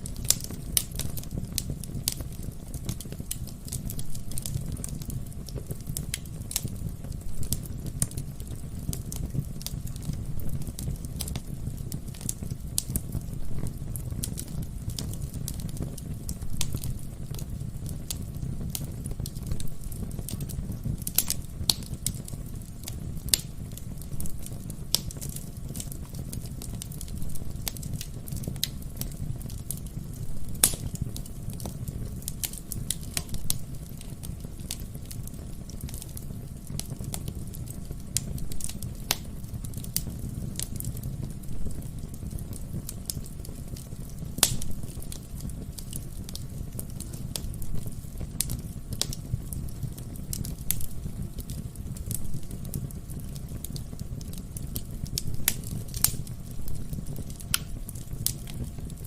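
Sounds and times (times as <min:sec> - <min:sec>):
flames rumbling in fireplace: 0:00.0 - 0:59.0
logs crackling and popping: 0:00.0 - 0:59.0.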